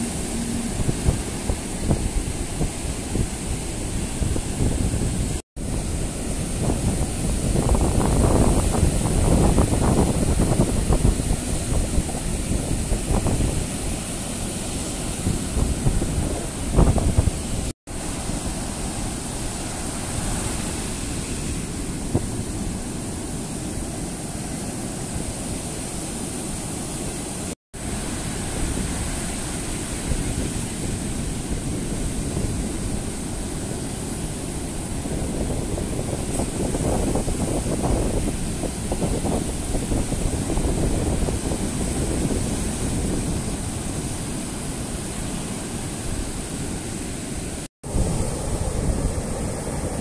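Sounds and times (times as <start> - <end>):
wind buffeting microphone: 0.0 - 24.0, 27.9 - 50.0
surf breaking on beach: 0.0 - 50.0.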